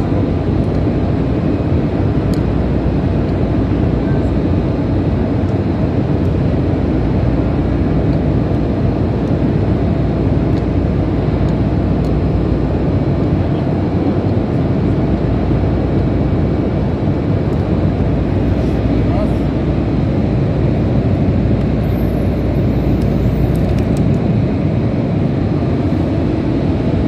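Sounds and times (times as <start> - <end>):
low machinery rumble: 0.0 - 27.0.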